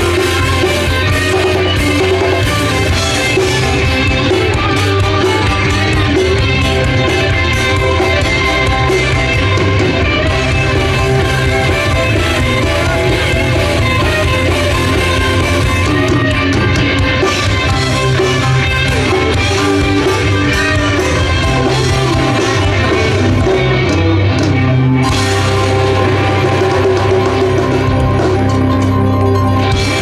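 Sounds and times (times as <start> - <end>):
rock band playing live: 0.0 - 30.0.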